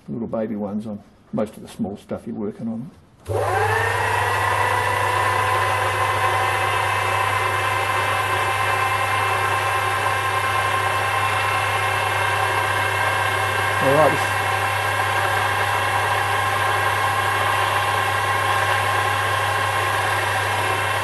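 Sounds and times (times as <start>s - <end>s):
lathe motor whine: 3.2s - 21.0s.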